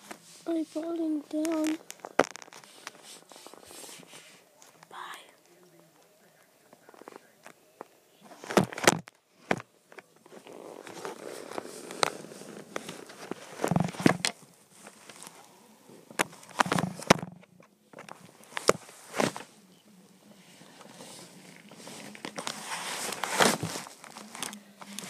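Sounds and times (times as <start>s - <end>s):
phone rustling and scraping: 0.0s - 5.0s, 8.2s - 19.7s, 20.3s - 25.0s.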